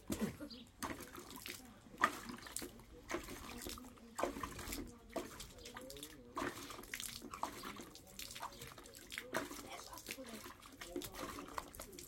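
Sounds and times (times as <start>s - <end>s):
dog splashing in water: 0.8s - 12.0s.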